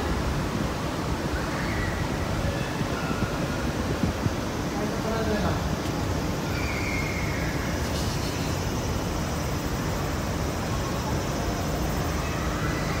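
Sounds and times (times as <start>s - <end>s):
traffic rumble: 0.0s - 13.0s
wind hiss: 0.0s - 13.0s.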